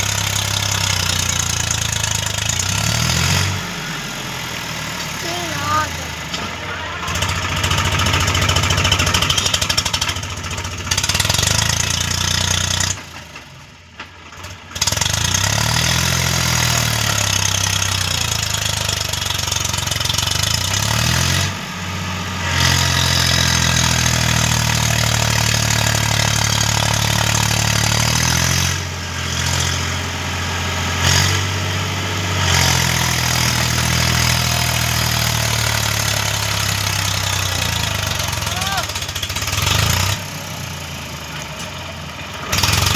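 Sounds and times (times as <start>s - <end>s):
tractor diesel engine straining: 0.0s - 42.9s.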